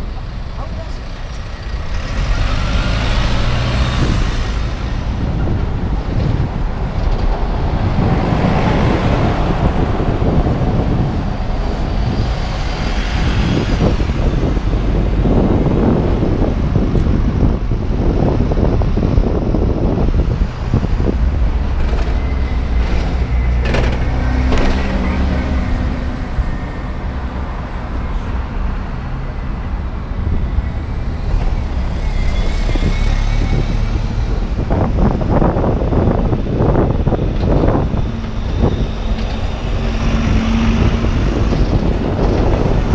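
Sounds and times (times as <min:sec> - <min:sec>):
bus engines passing: 0:00.0 - 0:42.9
traffic rumble: 0:00.0 - 0:42.9.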